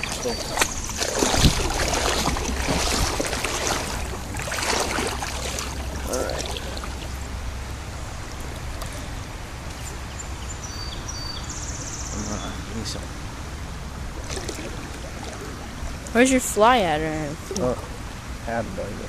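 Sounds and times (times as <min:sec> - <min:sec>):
creek water rushing: 0:00.0 - 0:11.1, 0:12.2 - 0:18.4.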